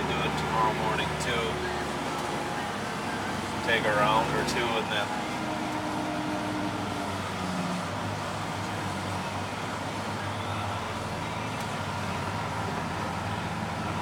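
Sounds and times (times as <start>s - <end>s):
combine harvester engine drone: 0.0s - 14.0s.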